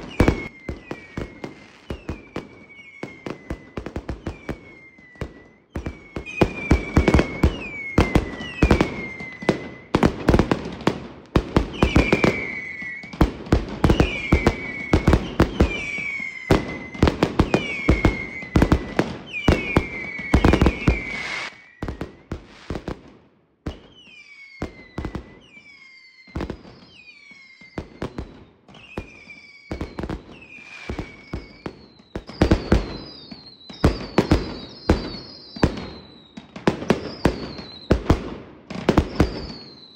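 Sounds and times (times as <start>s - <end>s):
firework whistle falling in pitch: 0.0s - 10.0s, 11.6s - 13.2s, 13.8s - 22.9s, 23.7s - 38.0s, 39.0s - 39.9s
fireworks bangs and crackle: 0.0s - 39.9s.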